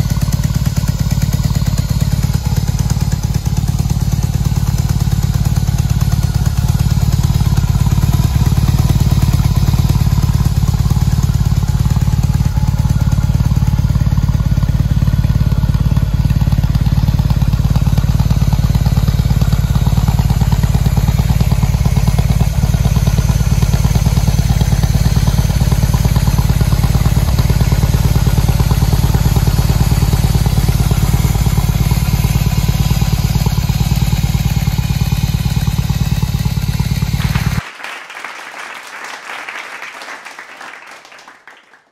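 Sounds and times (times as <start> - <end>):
motorcycle engine idling: 0.0 - 37.6.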